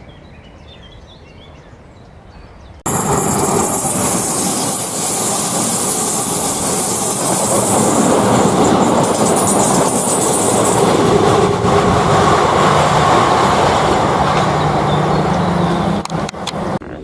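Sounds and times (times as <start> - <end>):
train wheels rushing on rail: 2.9 - 16.8.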